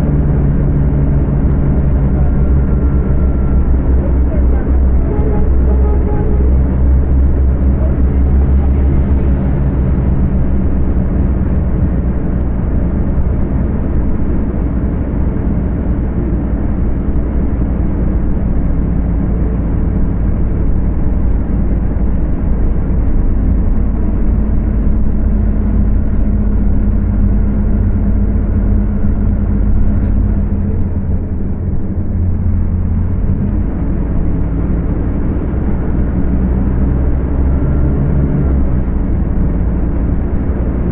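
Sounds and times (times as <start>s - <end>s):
bus diesel engine at high revs: 0.0s - 40.9s.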